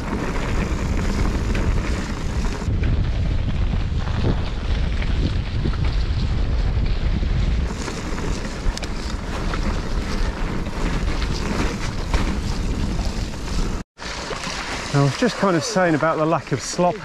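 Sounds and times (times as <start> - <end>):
bike clicks and rattles: 0.0 - 13.8
wind buffeting microphone: 0.0 - 13.8
tyres rumbling on trail: 0.0 - 17.0.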